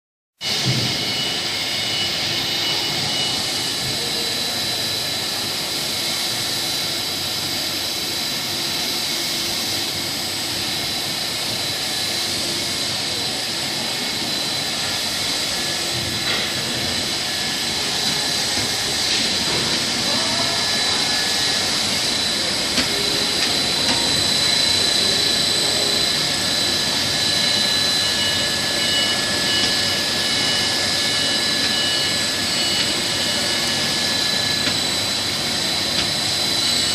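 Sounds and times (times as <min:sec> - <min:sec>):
high-pitched machine whines: 0:00.4 - 0:36.9
machine hiss: 0:00.4 - 0:36.9.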